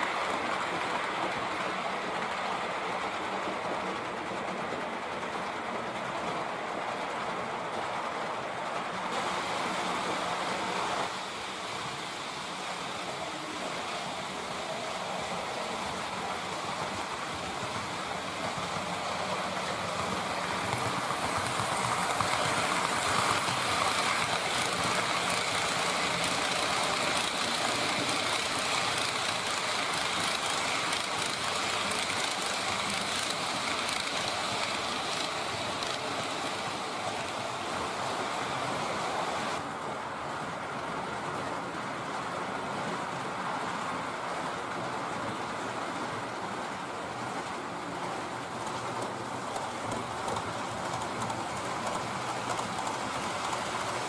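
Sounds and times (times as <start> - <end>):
model train rolling past: 0.0 - 54.0.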